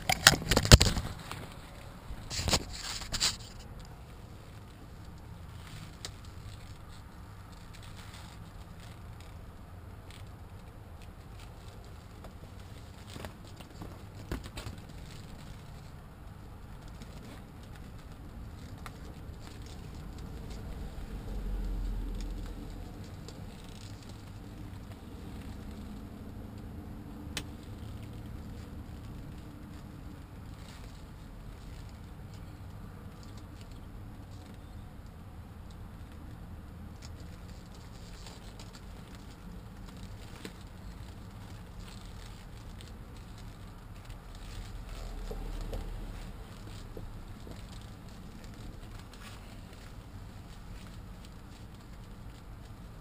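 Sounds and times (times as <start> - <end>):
plastic coat crinkling and rustling: 0.0 - 35.1, 35.9 - 53.0.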